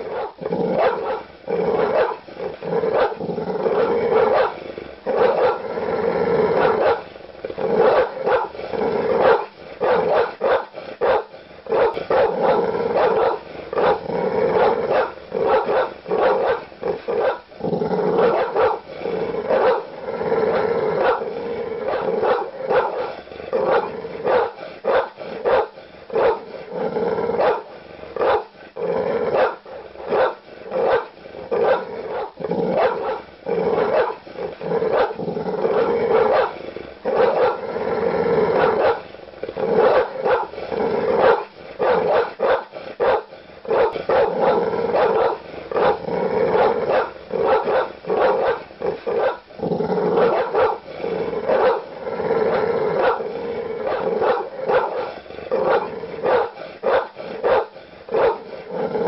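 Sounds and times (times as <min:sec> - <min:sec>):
large dog barking: 0:00.0 - 0:05.7, 0:06.4 - 0:28.6, 0:29.2 - 0:37.6, 0:38.5 - 0:59.0.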